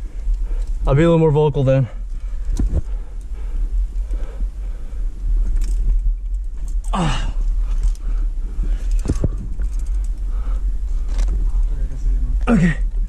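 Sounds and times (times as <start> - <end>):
low rumble on microphone: 0.0 - 13.0.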